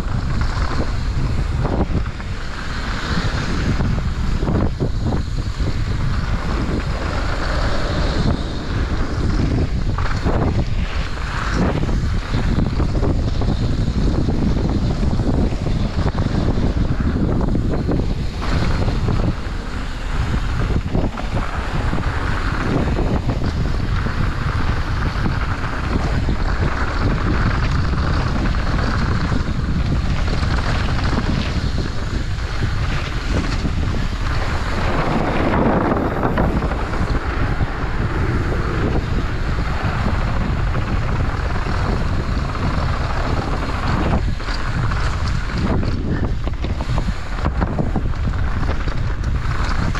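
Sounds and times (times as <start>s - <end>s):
bike riding hiss: 0.0s - 49.9s
wind buffeting microphone: 0.0s - 49.9s.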